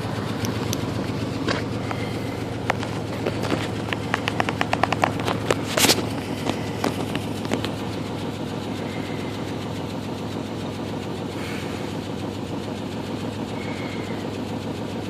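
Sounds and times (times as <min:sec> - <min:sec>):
engine idling roughly: 0:00.0 - 0:15.0.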